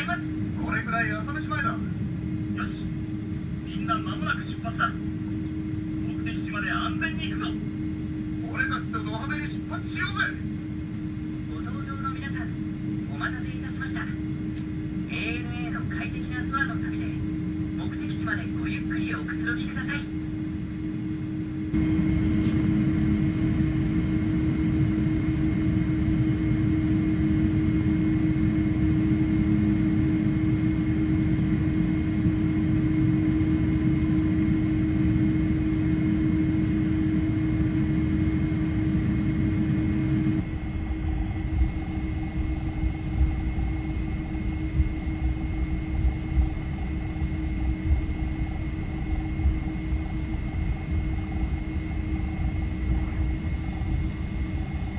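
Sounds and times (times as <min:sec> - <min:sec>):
jet engine drone and rumble: 0:00.0 - 0:54.9.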